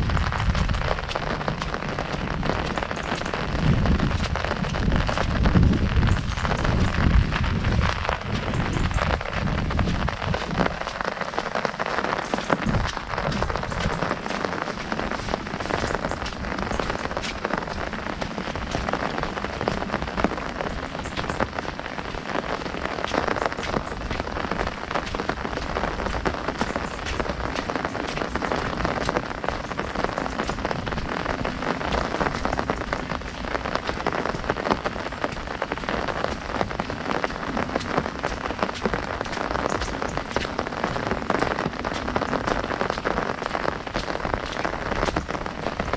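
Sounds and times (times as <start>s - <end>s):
rain drumming on umbrella: 0.0s - 45.9s.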